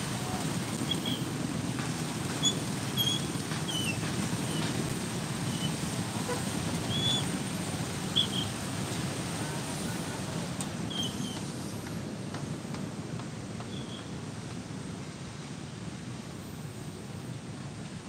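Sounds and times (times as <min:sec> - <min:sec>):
traffic: 0:00.0 - 0:18.0.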